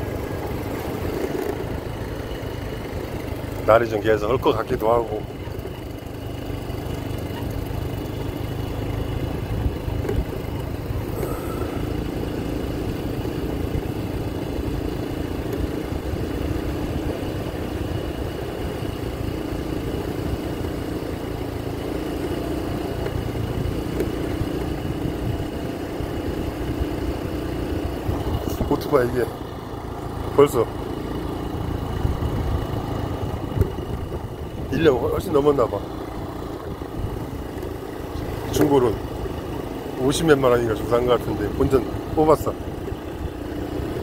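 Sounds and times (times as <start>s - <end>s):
scooter engine running: 0.0s - 44.0s
wind and road noise: 0.0s - 44.0s.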